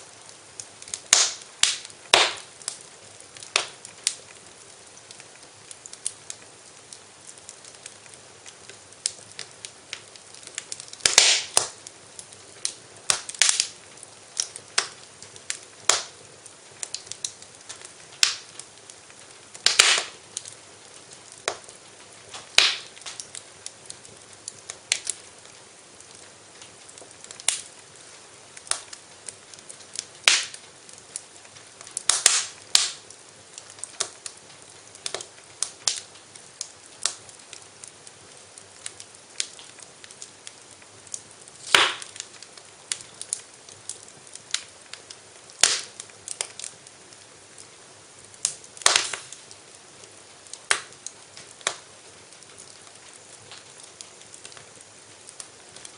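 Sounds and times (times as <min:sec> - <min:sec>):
soft steady hiss: 0:00.0 - 0:55.9
wood fire crackling and popping: 0:00.0 - 0:55.9.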